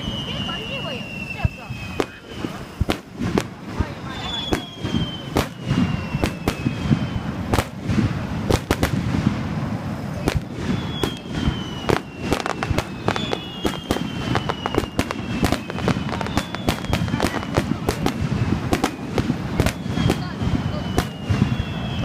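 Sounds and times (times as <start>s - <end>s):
crowd murmur: 0.0s - 22.0s
fireworks bangs and crackles: 0.0s - 22.0s
fireworks falling whistles: 0.0s - 22.0s.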